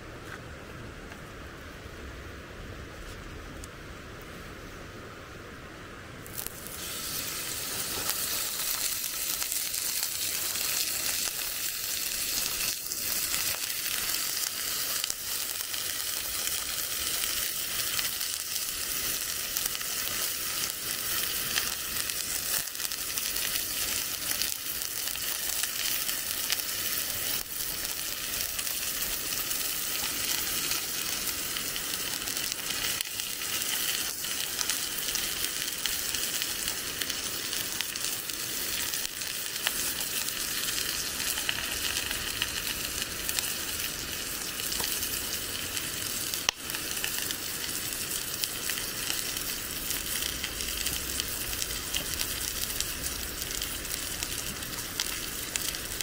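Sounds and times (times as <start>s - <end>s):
food sizzling in a pan: 6.2s - 56.0s.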